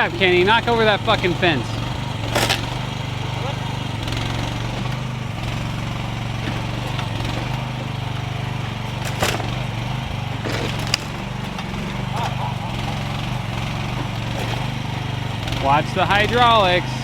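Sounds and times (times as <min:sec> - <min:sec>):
excavator engine running: 0:00.0 - 0:17.0
fence cracking: 0:00.0 - 0:17.0.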